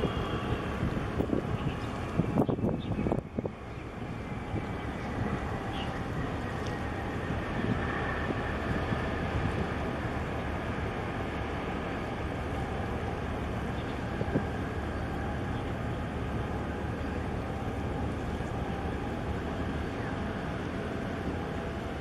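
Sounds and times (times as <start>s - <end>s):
low harbour rumble: 0.0s - 22.0s.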